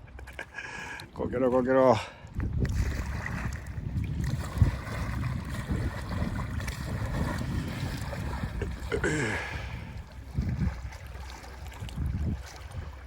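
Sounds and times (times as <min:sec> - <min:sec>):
wind rumbling on microphone: 0:02.2 - 0:13.0.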